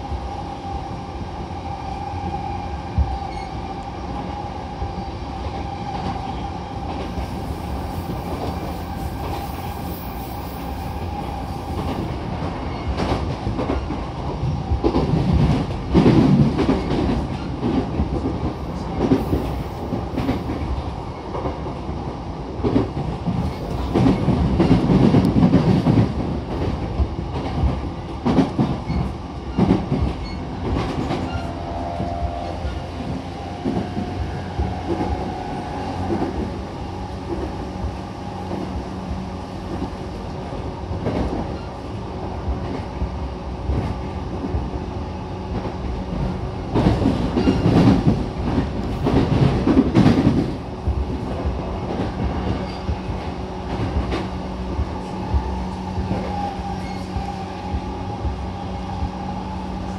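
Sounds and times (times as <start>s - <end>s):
rumble of wheels on rail: 0.0s - 59.9s
rail joint clicks: 5.8s - 36.6s, 37.2s - 38.8s, 39.6s - 44.8s, 45.5s - 59.1s.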